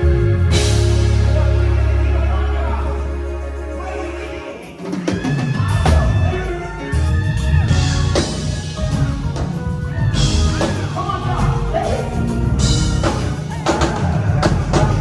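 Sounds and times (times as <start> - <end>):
rock music with drums and bass: 0.0 - 2.0, 5.0 - 15.0.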